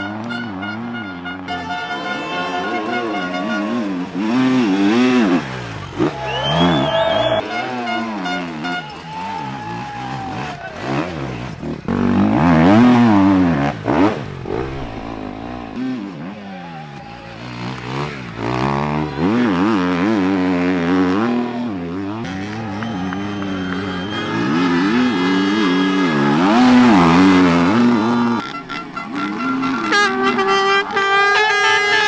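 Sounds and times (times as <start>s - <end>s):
off-road motorcycle engine revving: 0.0s - 32.0s.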